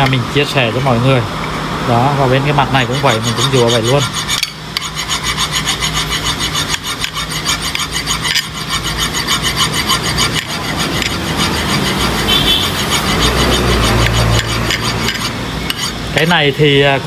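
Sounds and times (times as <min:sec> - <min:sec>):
hand file rasping: 0:02.2 - 0:16.4.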